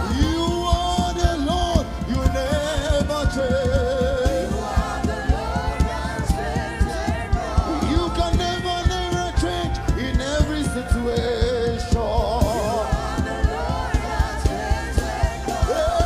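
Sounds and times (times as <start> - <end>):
bass: 0.0 - 16.0
drum beat: 0.0 - 16.0
voices singing with vibrato: 0.0 - 16.0.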